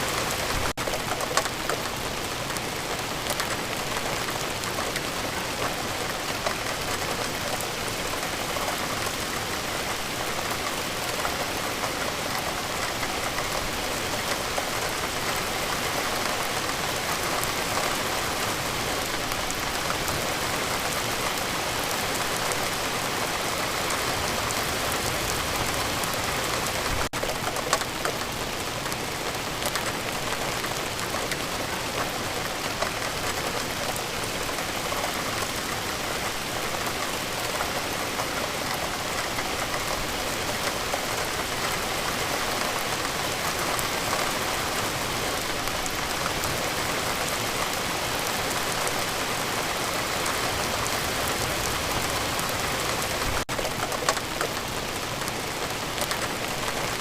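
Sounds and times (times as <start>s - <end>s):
raindrops pattering on a surface: 0.0s - 57.0s.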